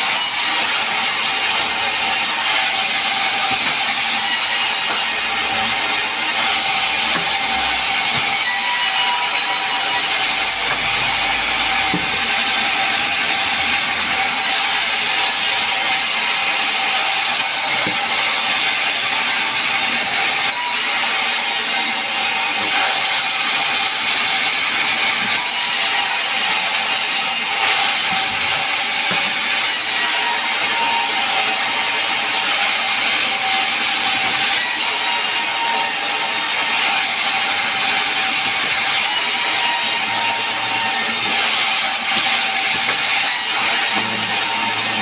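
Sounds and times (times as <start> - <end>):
sawmill machinery running: 0.0 - 45.0.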